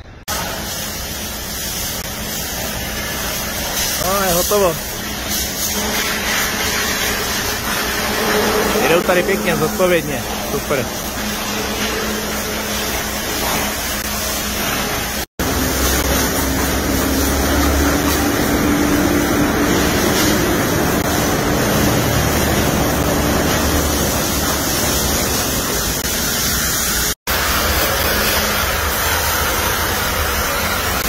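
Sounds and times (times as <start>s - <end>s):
pressure washer spraying: 0.1s - 31.0s.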